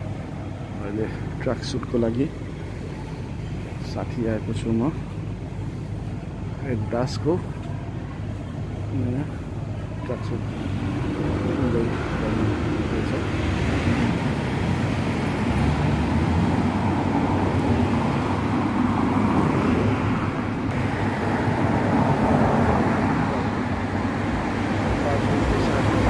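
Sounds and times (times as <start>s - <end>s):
cars passing: 0.0s - 26.0s
urban hum: 0.0s - 26.0s.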